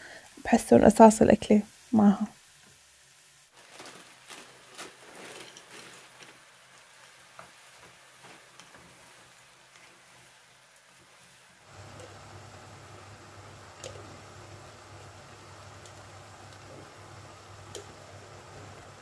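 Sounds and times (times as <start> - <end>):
vegetables sizzling in frying pan: 0.0 - 19.0.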